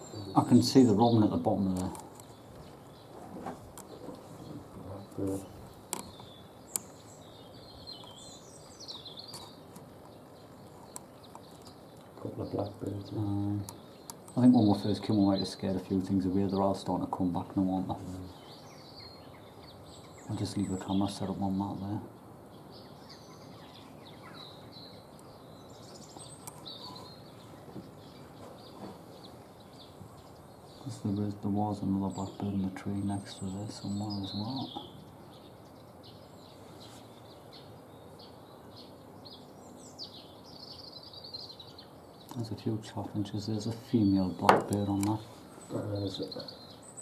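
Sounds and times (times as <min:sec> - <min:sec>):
faint background hiss: 0:00.0 - 0:47.0
outdoor background noise: 0:00.0 - 0:47.0
small birds chirping: 0:00.0 - 0:47.0
songbird warbling: 0:00.0 - 0:47.0.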